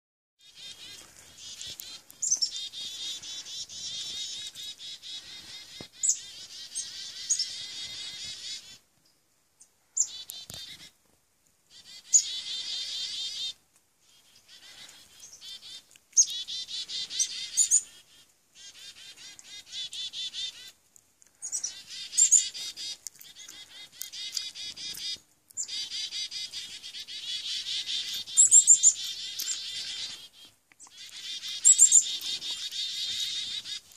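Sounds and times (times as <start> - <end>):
chickadees calling: 0.4 - 8.8, 9.9 - 11.0, 11.7 - 33.9.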